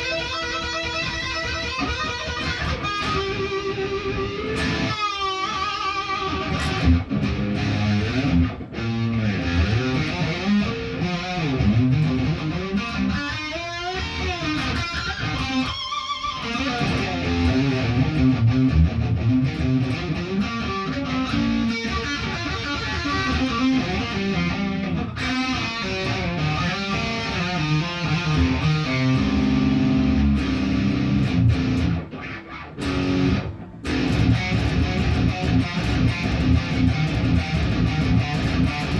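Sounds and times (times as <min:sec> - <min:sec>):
electric guitar playing: 0:00.0 - 0:38.9.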